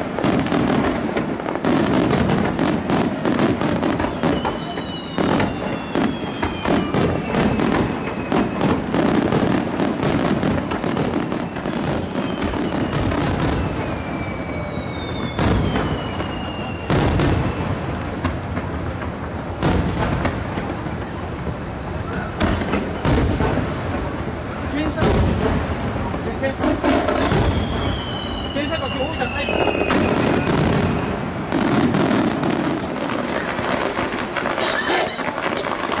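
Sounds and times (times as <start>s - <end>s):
falling firework whistle: 0.0s - 36.0s
fireworks crackling and popping: 0.0s - 36.0s.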